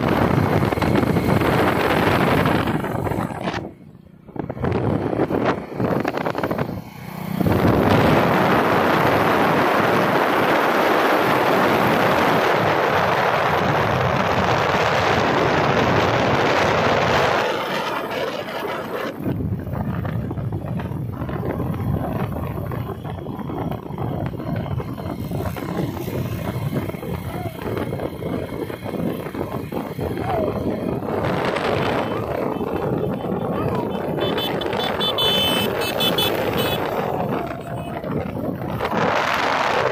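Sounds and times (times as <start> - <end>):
vehicle running noise: 0.0 - 39.9
wind rushing over microphone: 0.0 - 39.9.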